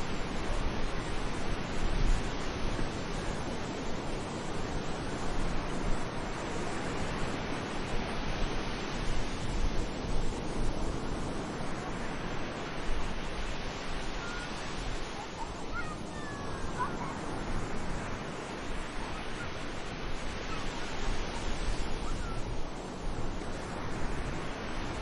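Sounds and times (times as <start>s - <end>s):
sea waves washing onto beach: 0.0s - 25.0s.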